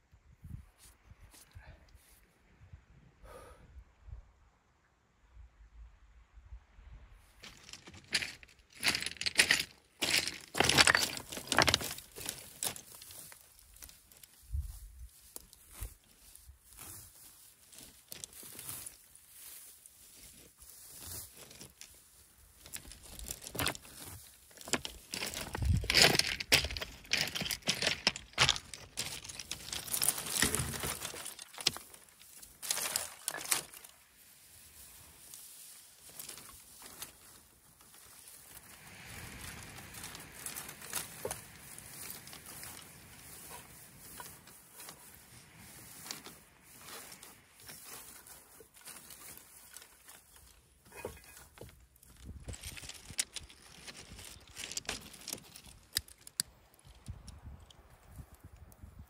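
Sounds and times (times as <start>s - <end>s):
dry grass crackling and rustling: 7.3s - 59.0s.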